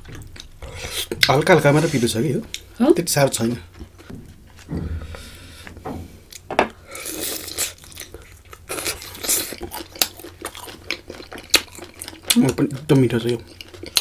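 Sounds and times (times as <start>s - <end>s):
chewing and crunchy mouth noises: 0.0s - 2.7s, 3.4s - 14.0s.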